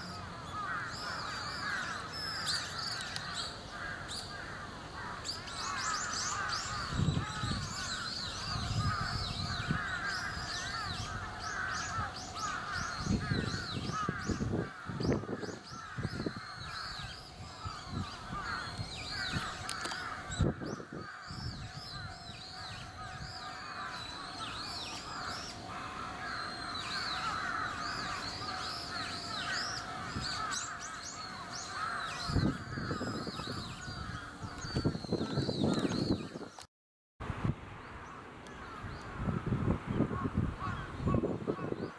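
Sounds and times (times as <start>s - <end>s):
chorus of birds calling: 0.0s - 36.7s, 37.9s - 41.9s.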